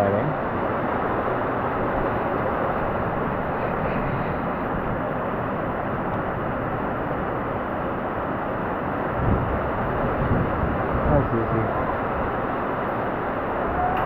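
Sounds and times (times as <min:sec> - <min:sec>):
rain on a roof: 0:00.0 - 0:14.0.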